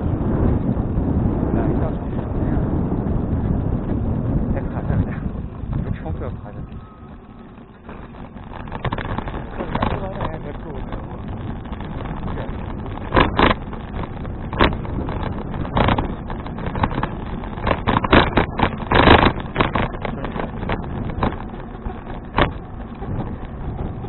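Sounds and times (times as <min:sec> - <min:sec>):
road rumble: 0:00.0 - 0:24.0
wind on microphone: 0:00.0 - 0:24.0.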